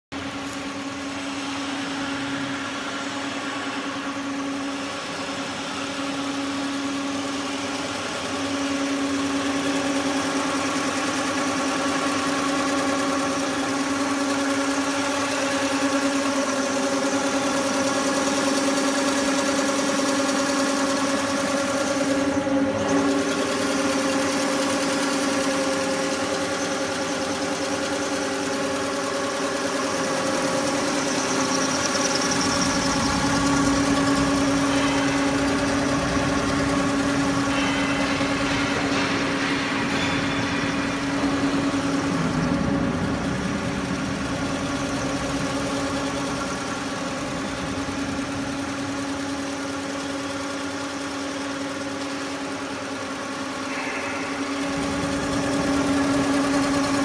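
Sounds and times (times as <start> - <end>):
quilting machine drone and whine: 0.1 - 57.0.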